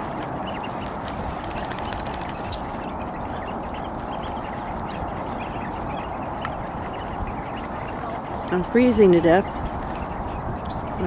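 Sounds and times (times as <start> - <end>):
high bird calls: 0.0 - 11.0
ducks quacking: 0.4 - 11.0.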